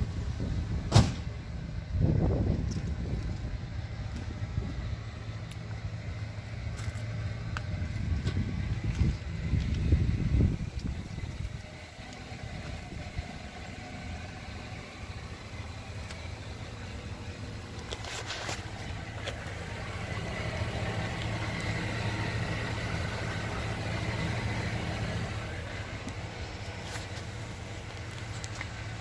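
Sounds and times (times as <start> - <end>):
pickup engine idling: 0.0 - 29.0.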